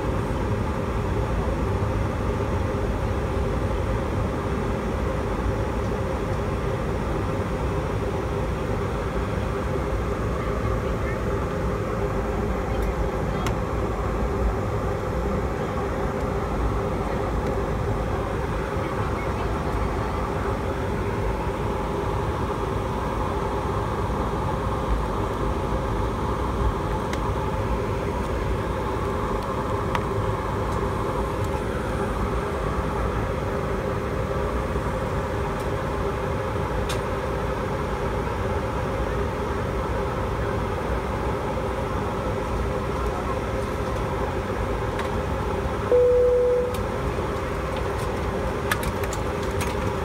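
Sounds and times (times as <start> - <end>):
jet engines idling: 0.0 - 50.0.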